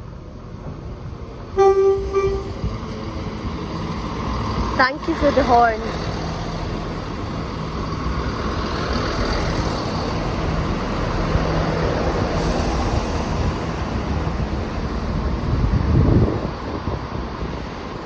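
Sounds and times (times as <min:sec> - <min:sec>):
diesel train passing: 0:00.2 - 0:15.8.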